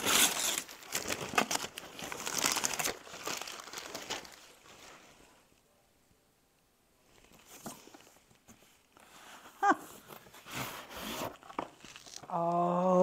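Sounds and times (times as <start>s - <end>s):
cardboard and paper rustling: 0.0s - 5.3s, 7.2s - 12.3s.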